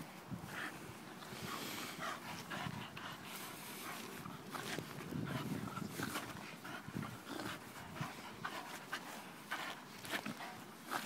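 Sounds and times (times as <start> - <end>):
dog panting: 0.4 - 11.0.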